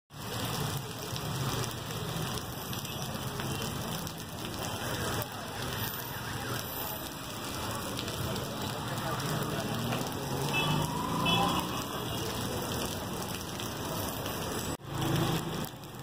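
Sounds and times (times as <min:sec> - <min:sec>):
heavy rain on wet street: 0:00.1 - 0:16.0
traffic rumbling on flooded road: 0:00.1 - 0:16.0.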